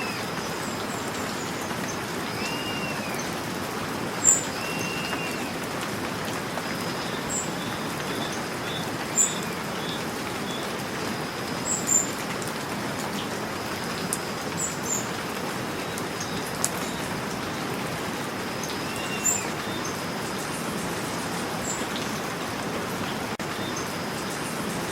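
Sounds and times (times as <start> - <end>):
birds chirping: 0.0 - 12.3, 13.1 - 24.9
steady rain falling: 0.0 - 24.9.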